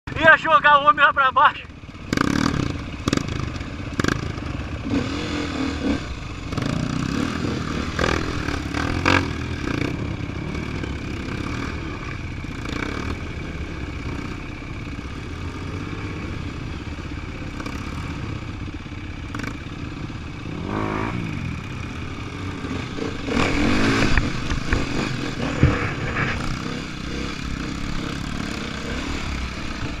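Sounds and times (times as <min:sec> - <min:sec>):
dirt bike engine revving: 0:01.7 - 0:30.0.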